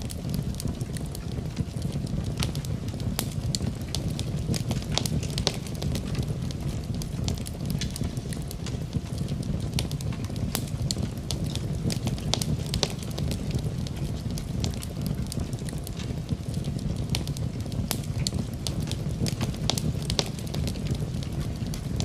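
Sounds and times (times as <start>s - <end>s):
low rumble of flames: 0.0s - 22.0s
wood fire crackles and pops: 0.0s - 22.0s.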